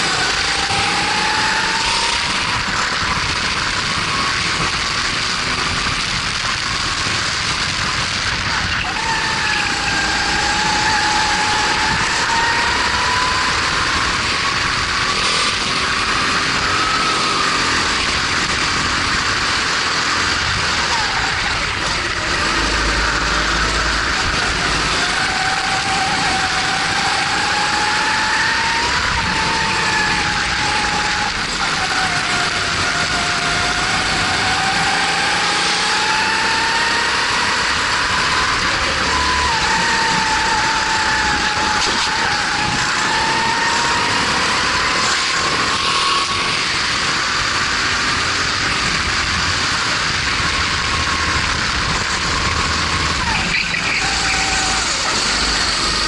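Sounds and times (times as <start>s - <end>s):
kart engine racing: 0.0s - 56.0s
wind noise: 0.0s - 56.0s.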